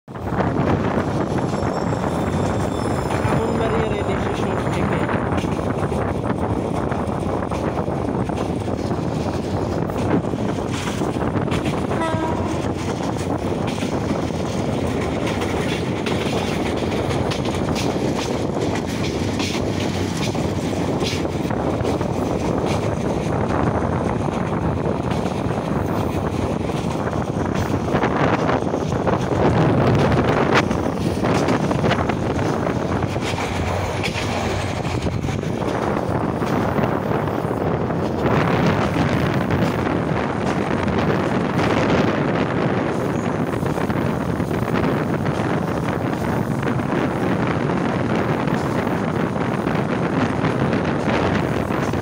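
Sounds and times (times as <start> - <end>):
rail clicks: 0.1 - 52.0
train wheels rumbling: 0.1 - 52.0
wind buffeting microphone: 0.1 - 52.0.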